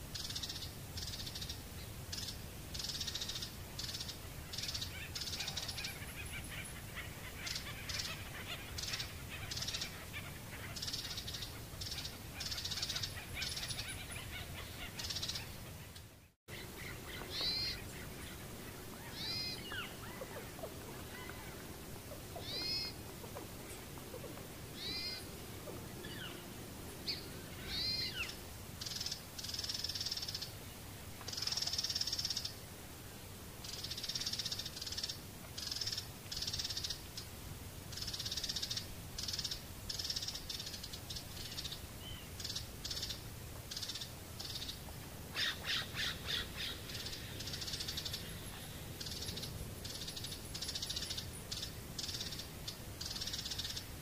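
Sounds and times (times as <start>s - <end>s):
birds calling: 0.1s - 32.6s, 33.6s - 54.0s
raspy chattering bird calls: 0.2s - 30.6s, 31.3s - 32.6s, 33.6s - 37.3s, 37.9s - 54.0s.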